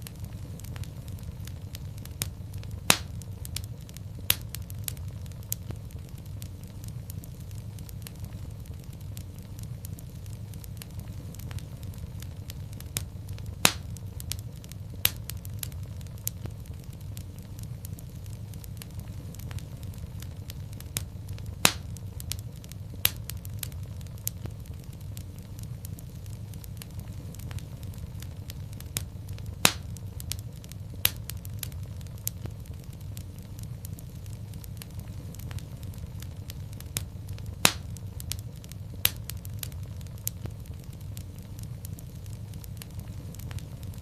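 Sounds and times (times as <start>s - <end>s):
fire popping: 0.0s - 44.0s
fireplace fire crackling: 0.0s - 44.0s
low rumble of flames: 0.0s - 44.0s.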